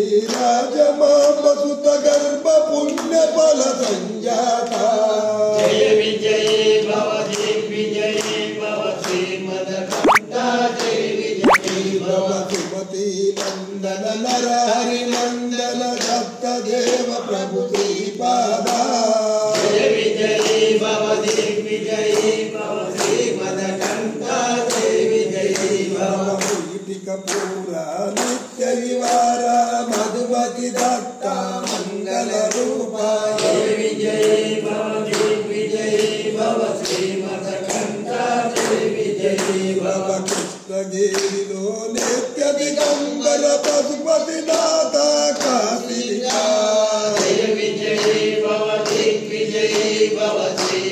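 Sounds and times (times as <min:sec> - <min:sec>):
group chanting: 0:03.8 - 0:12.7, 0:13.8 - 0:26.7, 0:28.1 - 0:41.2, 0:42.0 - 0:50.9.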